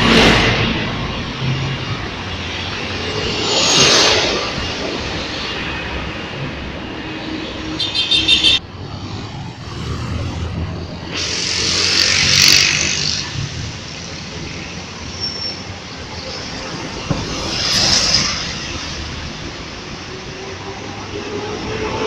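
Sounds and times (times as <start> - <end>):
bus engine rumble: 0.0 - 22.0
buses driving by: 0.0 - 22.0.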